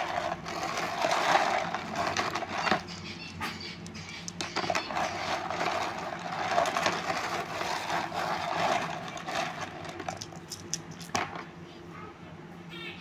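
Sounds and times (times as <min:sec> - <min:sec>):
small stones clattering: 0:00.0 - 0:11.5.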